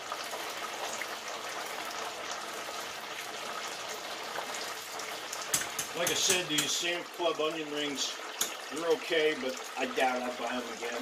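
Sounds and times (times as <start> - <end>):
onion rings frying in oil: 0.0 - 11.0.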